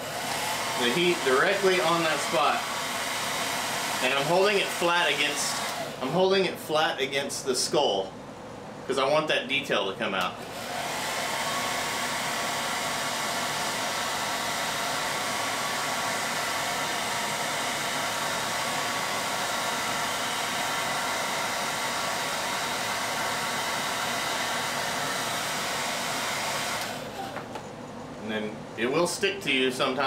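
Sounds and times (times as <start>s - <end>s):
blow dryer running: 0.0s - 7.1s, 10.2s - 27.8s.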